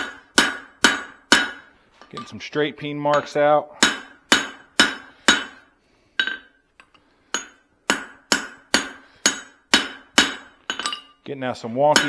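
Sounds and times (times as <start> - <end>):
hammer striking steel on anvil: 0.0 - 2.4, 3.1 - 6.6, 7.3 - 11.2.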